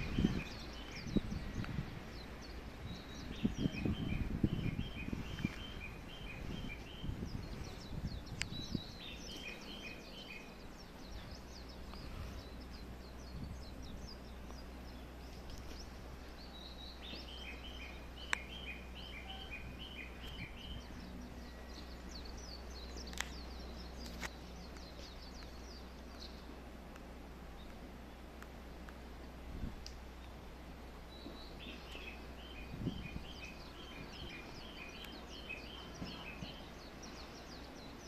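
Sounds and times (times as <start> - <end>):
small birds chirping: 0.0 - 29.2, 29.8 - 38.0
low outdoor rumble: 0.0 - 38.0.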